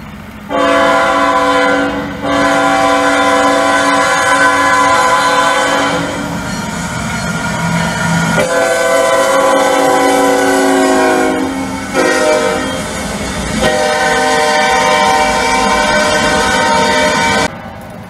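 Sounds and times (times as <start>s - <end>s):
model train horn blasts: 0.5s - 6.5s, 8.3s - 17.5s.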